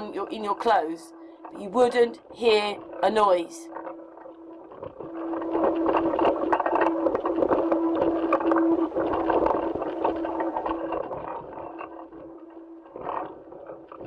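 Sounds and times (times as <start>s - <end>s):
crackling and clicking noise: 0.0s - 14.0s
steady hum: 0.0s - 14.0s.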